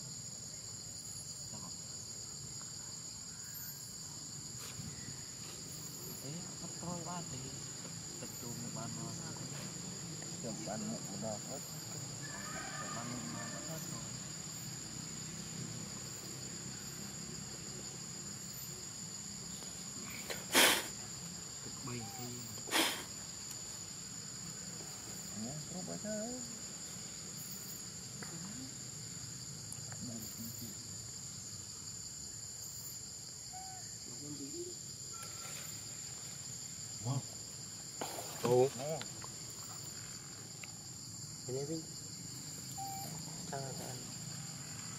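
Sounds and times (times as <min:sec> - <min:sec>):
insects buzzing at high pitch: 0:00.0 - 0:44.9
rustle: 0:00.0 - 0:44.9.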